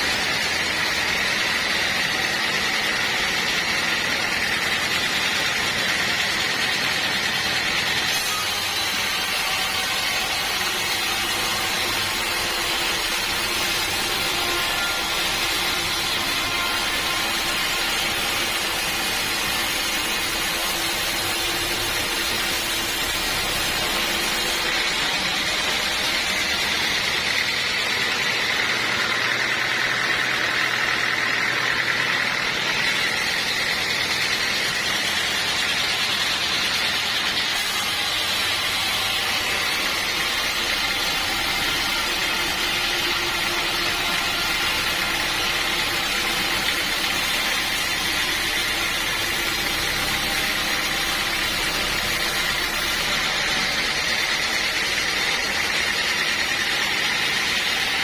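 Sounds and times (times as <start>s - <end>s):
high mechanical whine: 0.0s - 58.0s
sawmill machinery running: 0.0s - 58.0s.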